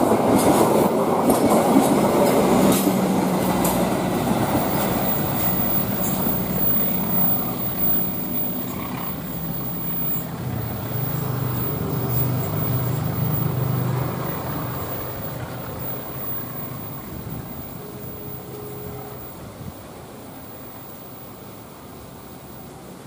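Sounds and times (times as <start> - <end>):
train passing rumble: 0.0 - 23.0.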